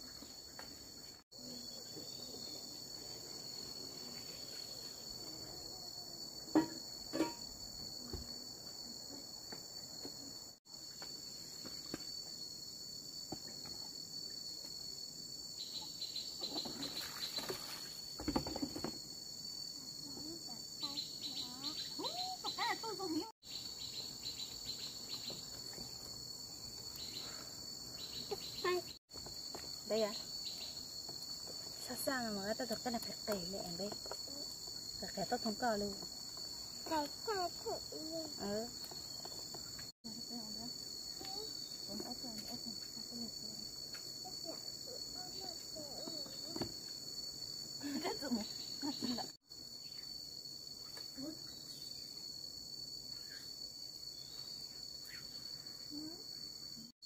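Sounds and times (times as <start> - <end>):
chirping insects: 0.0 - 57.0.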